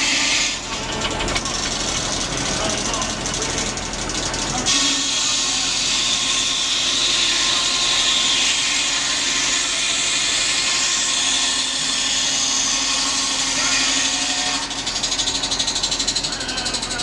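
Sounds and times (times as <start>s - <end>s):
circular saw cutting wood: 0.0s - 17.0s.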